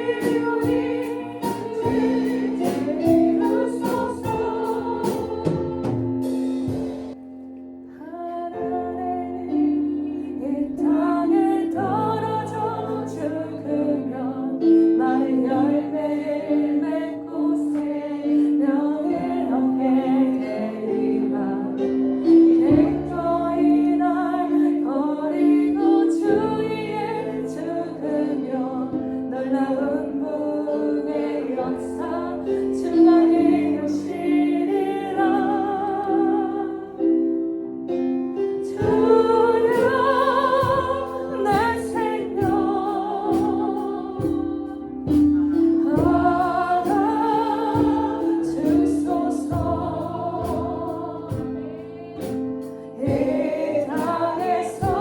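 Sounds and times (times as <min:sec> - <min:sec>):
people singing: 0:00.0 - 0:07.2, 0:08.0 - 0:37.3, 0:38.6 - 0:55.0
worship song with instruments: 0:00.0 - 0:55.0.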